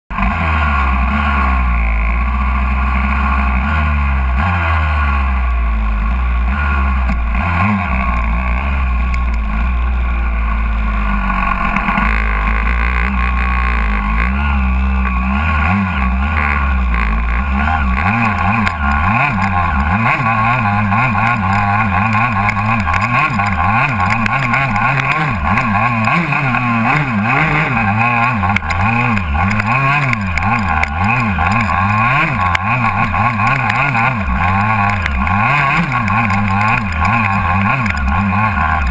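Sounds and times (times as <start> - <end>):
two-stroke motorcycle engine revving: 0.1 - 38.9.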